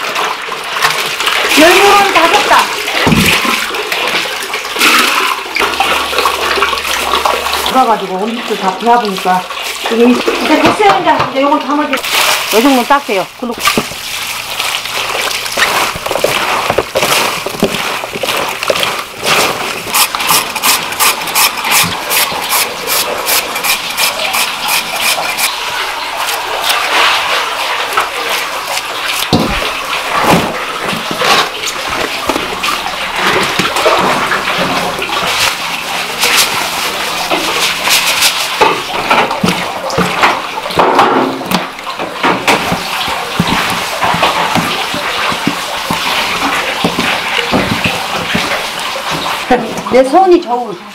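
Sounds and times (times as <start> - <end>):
wet rustling and squelching: 0.0 - 50.9.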